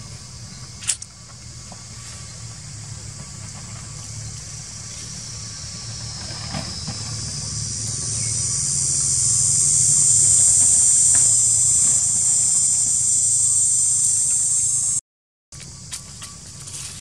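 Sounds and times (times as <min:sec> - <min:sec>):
insect chorus droning: 0:00.0 - 0:15.0, 0:15.6 - 0:17.0
low hum: 0:00.0 - 0:15.0.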